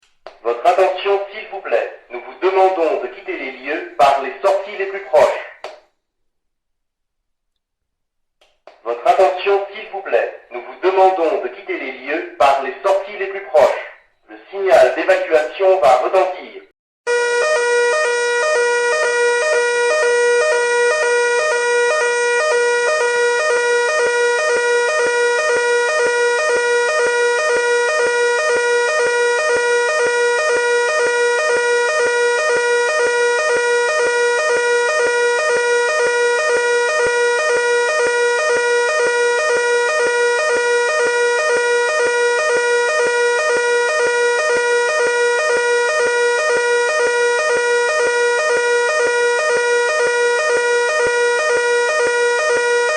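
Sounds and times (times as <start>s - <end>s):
fire alarm steady electronic tone: 0.6s - 5.6s, 9.0s - 16.0s, 17.1s - 52.9s.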